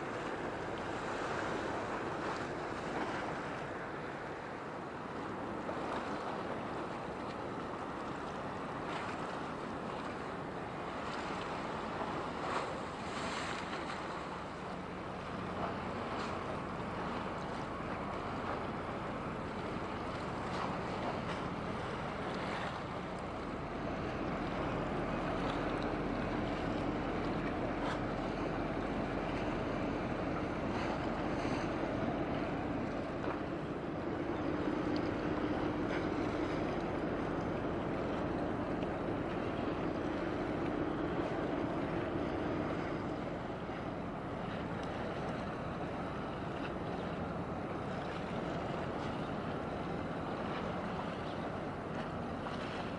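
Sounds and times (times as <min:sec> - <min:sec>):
ship engines humming: 0:00.0 - 0:52.9
wind rumble on microphone: 0:00.0 - 0:52.9.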